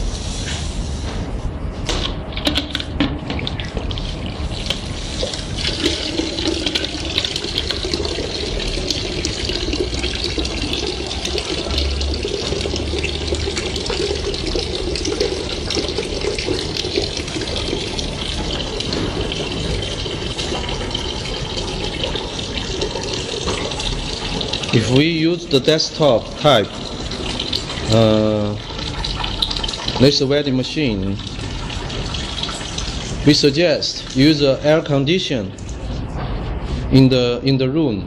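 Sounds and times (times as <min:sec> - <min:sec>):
water running through a hose: 0:03.5 - 0:35.9.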